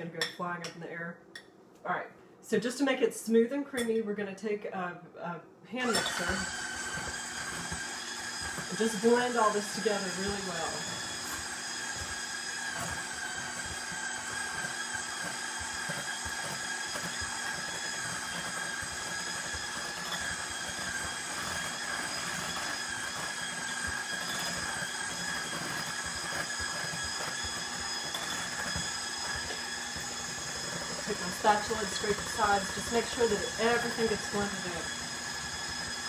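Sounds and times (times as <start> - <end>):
electric hand mixer running: 5.8 - 36.0.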